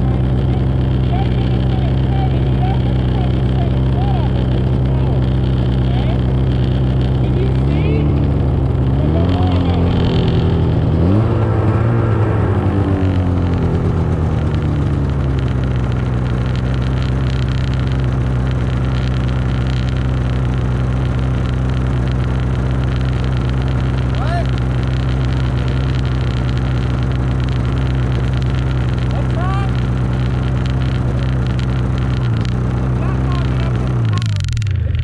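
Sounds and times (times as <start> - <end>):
snowmobile engine: 0.0 - 35.0.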